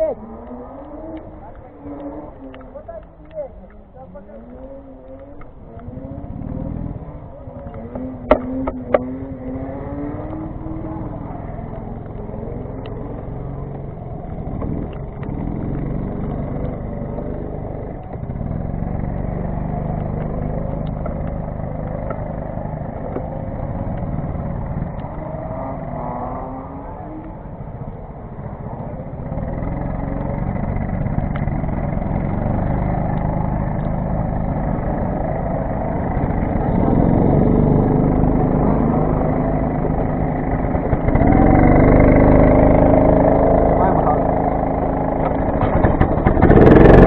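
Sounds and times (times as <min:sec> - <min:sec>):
go-kart engine running: 0:00.0 - 0:47.0.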